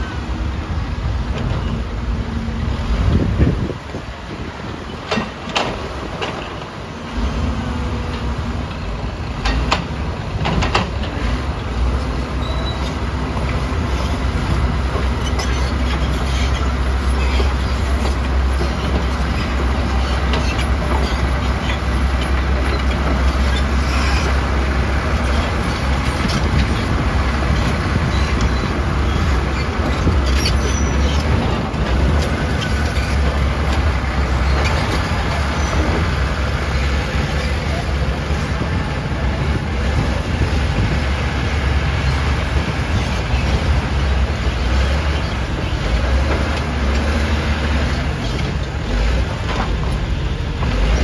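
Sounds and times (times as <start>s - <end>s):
diesel engines droning: 0.0s - 51.0s
steel tracks clattering: 0.0s - 51.0s.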